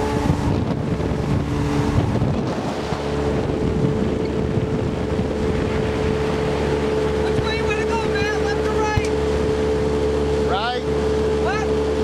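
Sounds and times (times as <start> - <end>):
boat motor humming: 0.0 - 12.0
wind buffeting microphone: 0.0 - 12.0.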